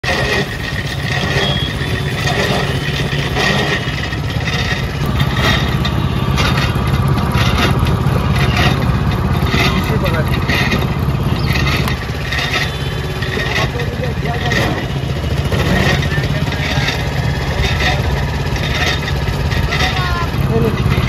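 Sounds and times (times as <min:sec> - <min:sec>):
cane crushing crackle: 0:00.0 - 0:21.0
juice machine motor hum: 0:00.0 - 0:21.0.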